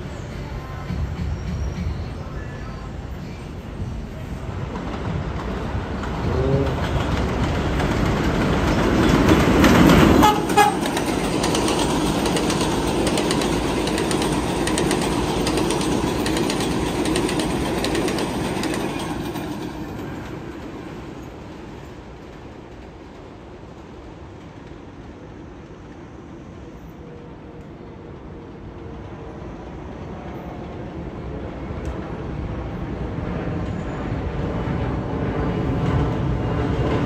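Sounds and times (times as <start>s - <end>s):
subway train rumbling on elevated track: 0.0s - 37.0s.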